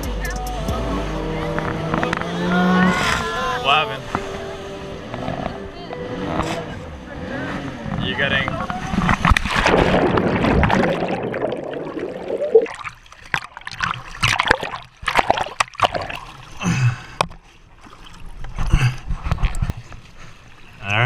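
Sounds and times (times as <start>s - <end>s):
water splashing and sloshing: 1.4s - 21.0s.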